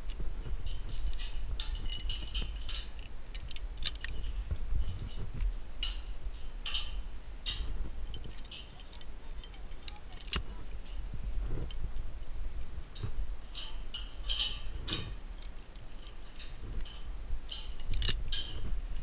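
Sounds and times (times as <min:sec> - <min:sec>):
low steady rumble: 0:00.0 - 0:19.0
metal carabiners clicking: 0:00.1 - 0:12.2, 0:12.9 - 0:19.0.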